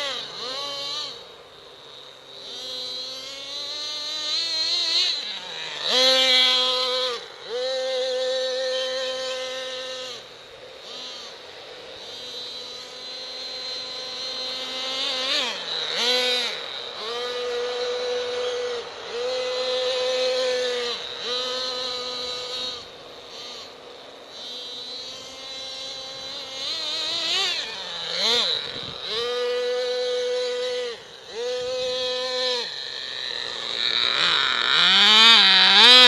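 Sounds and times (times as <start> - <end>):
small nitro engine revving: 0.0 - 36.0.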